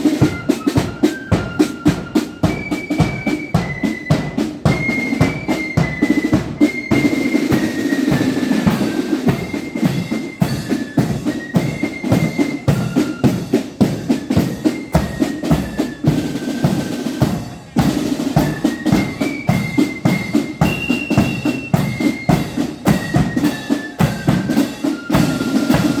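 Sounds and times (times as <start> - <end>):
high flute melody: 0.0 - 26.0
snare drum beats: 0.0 - 26.0.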